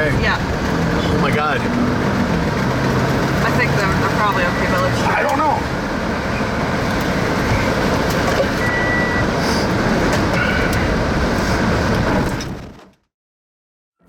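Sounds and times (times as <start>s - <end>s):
wind and vehicle rumble: 0.0s - 13.1s.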